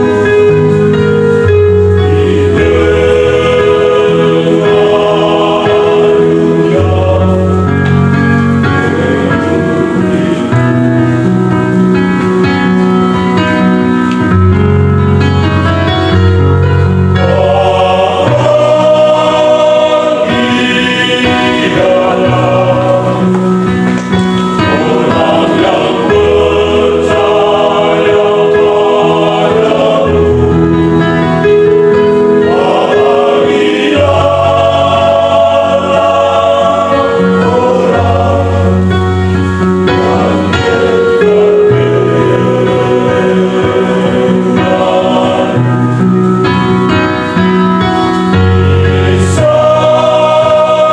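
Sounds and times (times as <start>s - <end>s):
vocal group singing gospel harmony: 0.0s - 14.3s, 15.6s - 50.9s.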